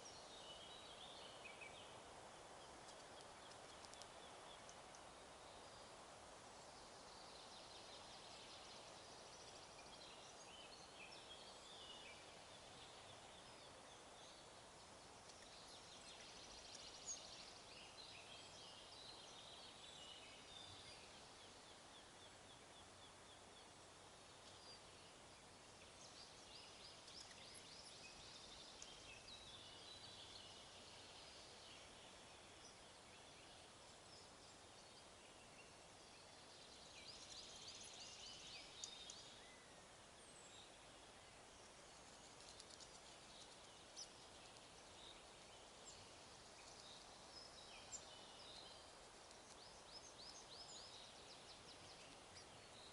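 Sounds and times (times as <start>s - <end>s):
forest ambience hiss: 0.0s - 52.9s
songbirds trilling and chirping: 0.0s - 52.9s.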